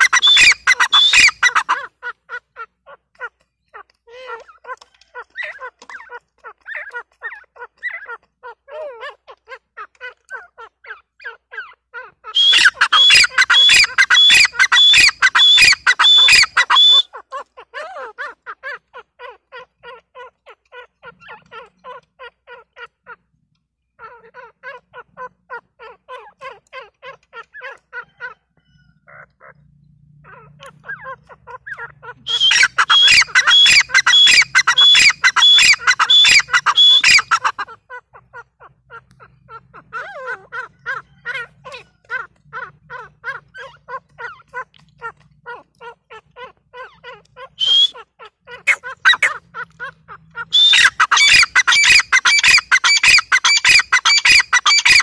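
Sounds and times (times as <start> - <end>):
francolins calling: 0.0 - 55.0.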